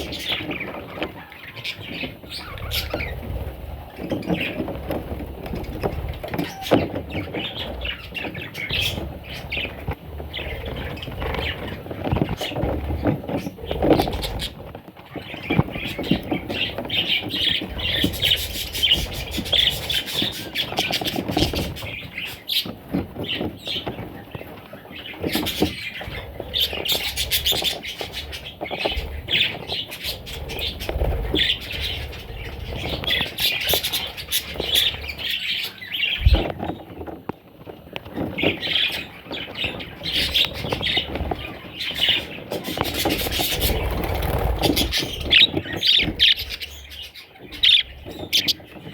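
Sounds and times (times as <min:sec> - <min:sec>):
bird chicks raspy chirps: 0:00.0 - 0:48.9.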